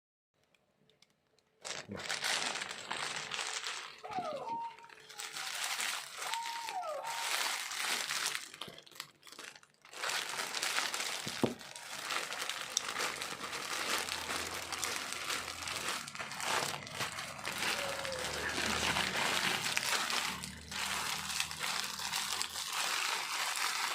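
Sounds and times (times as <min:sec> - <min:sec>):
packaging crinkling and rustling: 0:00.8 - 0:23.9.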